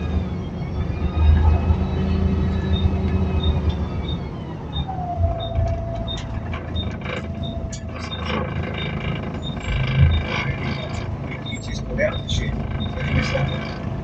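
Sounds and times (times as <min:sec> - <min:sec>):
bus body creaking and rattling: 0:00.0 - 0:14.0
bus engine rumble: 0:00.0 - 0:14.0.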